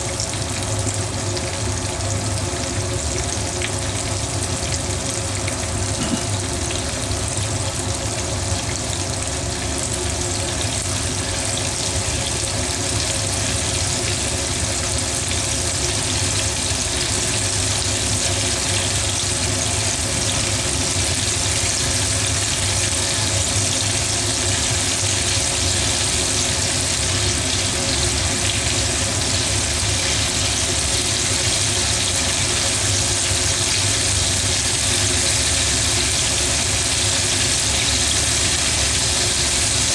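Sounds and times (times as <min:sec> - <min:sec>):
meat sizzling in hot oil: 0:00.0 - 0:39.9.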